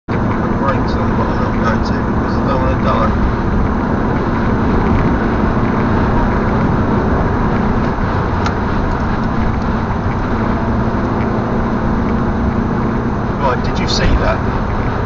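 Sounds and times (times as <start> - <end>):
car cabin road and engine noise: 0.1 - 15.0.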